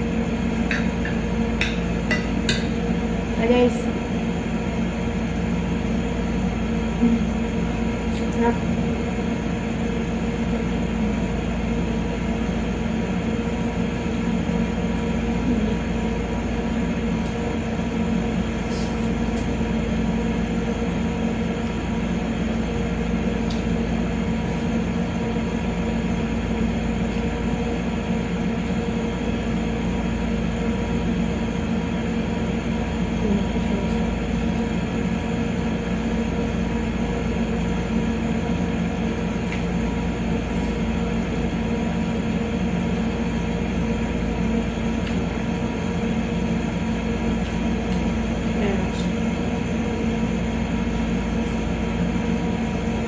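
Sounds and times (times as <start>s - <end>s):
mechanical hum: 0.0s - 53.0s.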